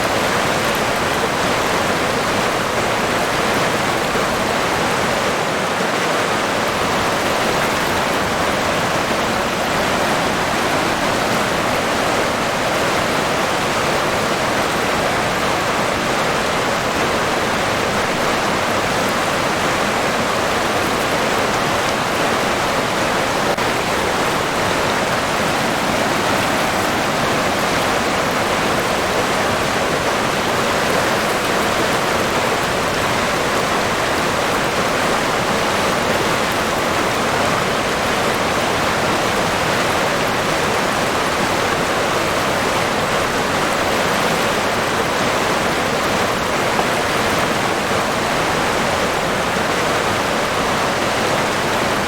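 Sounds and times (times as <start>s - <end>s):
river water rushing: 0.0s - 52.0s.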